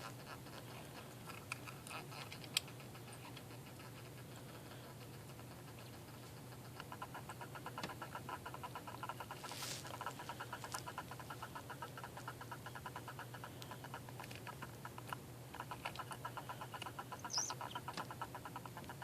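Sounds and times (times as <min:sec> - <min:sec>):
hermit crab chirping: 0:00.0 - 0:19.0.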